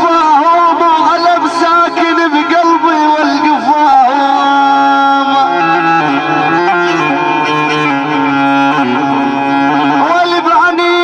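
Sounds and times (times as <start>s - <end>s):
electronic keyboard melody: 0.0s - 11.0s.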